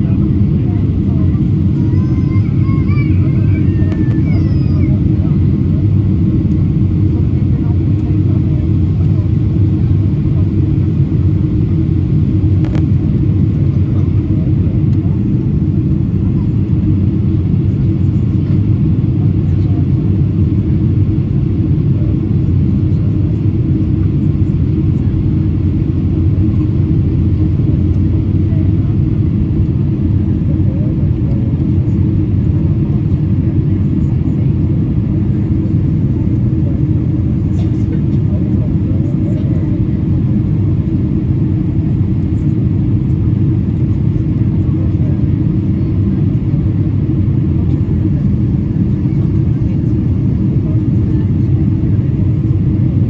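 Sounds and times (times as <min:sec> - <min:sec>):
airliner low rumble: 0:00.0 - 0:53.0.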